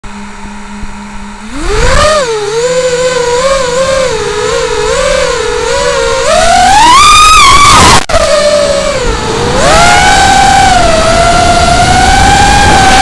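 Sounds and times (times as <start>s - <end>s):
quadcopter motors whining: 0.1s - 13.0s.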